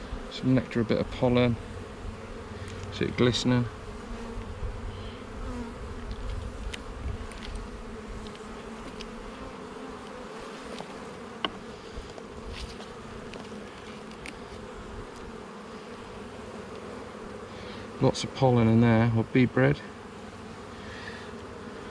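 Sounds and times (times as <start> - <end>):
honeybees buzzing: 0.0 - 21.9.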